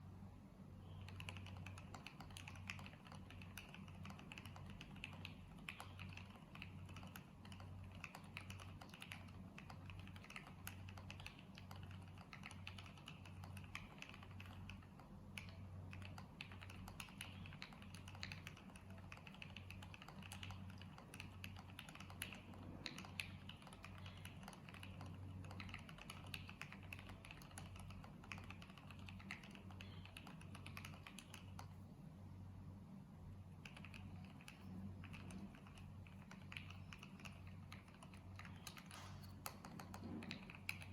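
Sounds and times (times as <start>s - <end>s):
mechanical keyboard typing: 0.8s - 31.8s, 33.5s - 40.9s.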